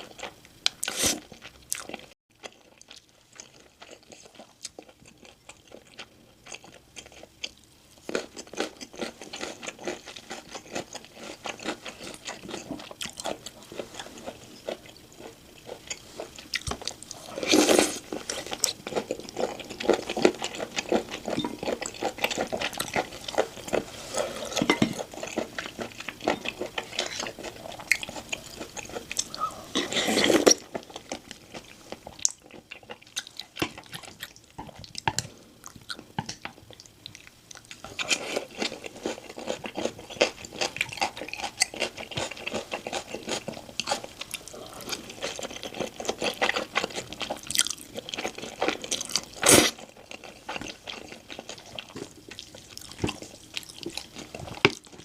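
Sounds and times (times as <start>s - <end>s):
chewing and crunching: 0.0s - 55.0s.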